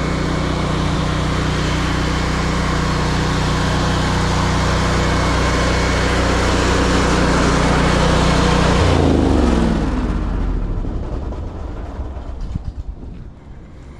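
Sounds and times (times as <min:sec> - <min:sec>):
pressure washer engine drone: 0:00.0 - 0:13.9.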